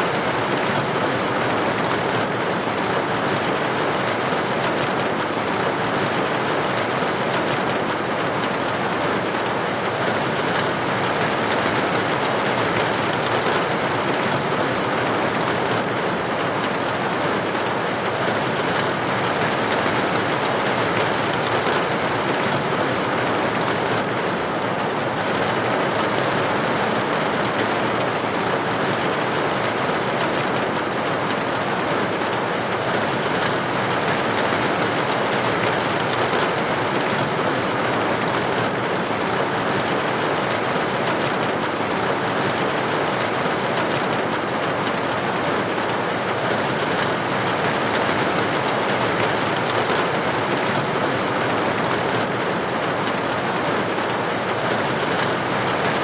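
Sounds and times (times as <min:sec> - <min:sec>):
rain pattering on window glass: 0:00.0 - 0:56.0.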